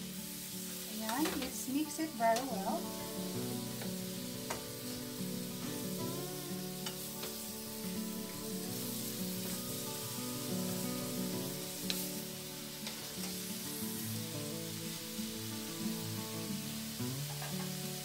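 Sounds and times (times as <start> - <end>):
food sizzling in wok: 0.0 - 18.0
soft background music: 0.0 - 18.0.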